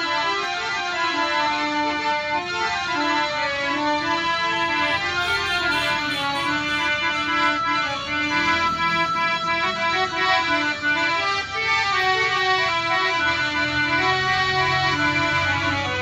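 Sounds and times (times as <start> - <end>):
electronic harmonium melody: 0.0 - 16.0.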